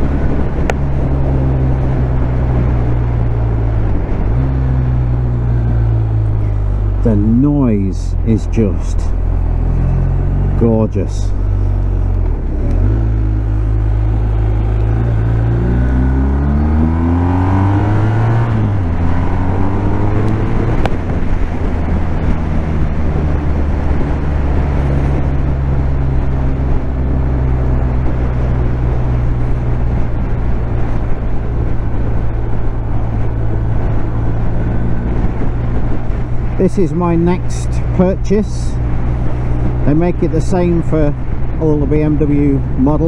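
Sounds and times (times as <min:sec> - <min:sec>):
motorcycle engine accelerating: 0:00.0 - 0:43.0
wind rush: 0:00.0 - 0:43.0.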